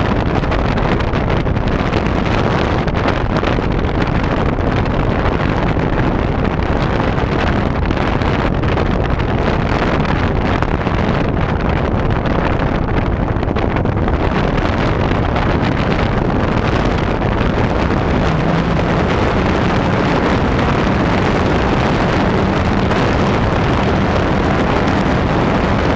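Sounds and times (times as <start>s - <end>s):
wind rush buffeting camera: 0.0s - 25.9s.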